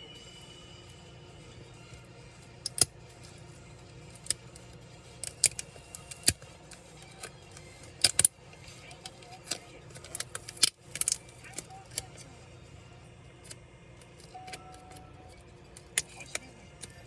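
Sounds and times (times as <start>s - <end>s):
tools clicking and clinking: 0.8s - 12.4s, 13.0s - 17.0s.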